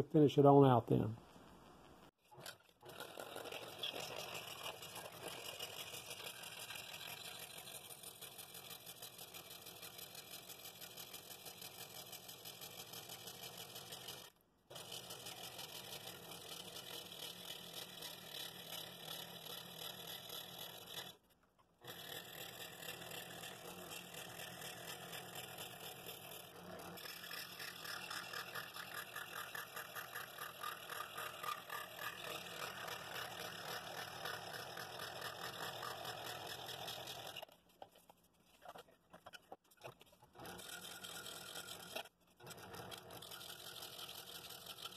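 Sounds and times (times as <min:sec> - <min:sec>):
scroll saw cutting wood: 0:02.2 - 0:21.2, 0:21.8 - 0:38.0, 0:38.6 - 0:44.9.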